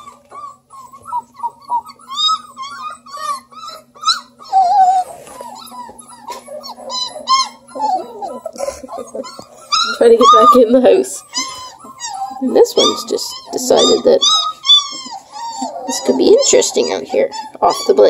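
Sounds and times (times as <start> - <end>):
puppies whimpering and squeaking: 0.0 - 18.0
puppy wavering whine: 0.0 - 18.0.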